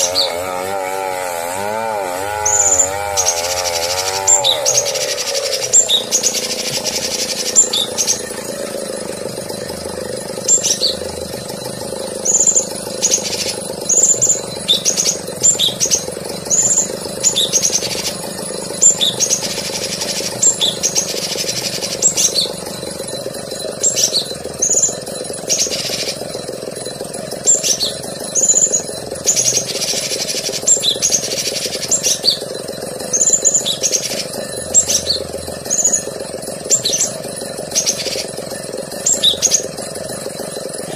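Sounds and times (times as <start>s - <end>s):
steady low hum: 0.0s - 40.9s
bird chirping and whistling: 1.4s - 8.5s, 10.4s - 11.2s, 12.1s - 22.8s, 23.7s - 26.4s, 27.4s - 39.9s.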